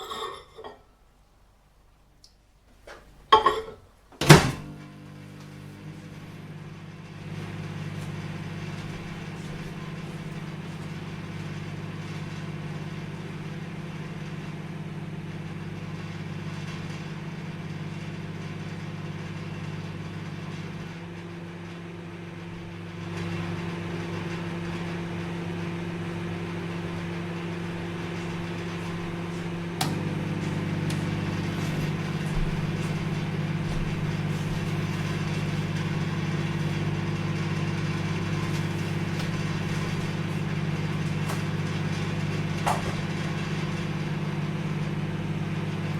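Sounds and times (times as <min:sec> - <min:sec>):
microwave oven humming: 0:00.0 - 0:45.9.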